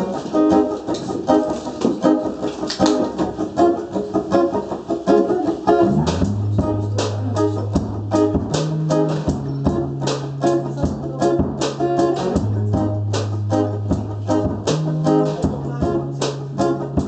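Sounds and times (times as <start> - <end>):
held bass notes: 0.0 - 17.0
rhythmic guitar strumming: 0.0 - 17.0.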